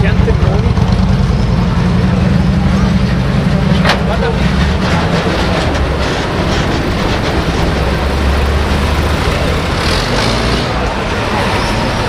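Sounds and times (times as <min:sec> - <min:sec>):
military vehicle engines rumbling: 0:00.0 - 0:12.0.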